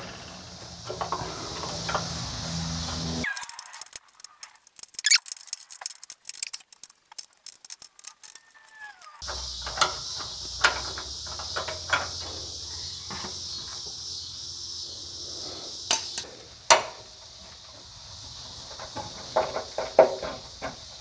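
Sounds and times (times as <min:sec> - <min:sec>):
steady high hiss: 0:00.0 - 0:19.3.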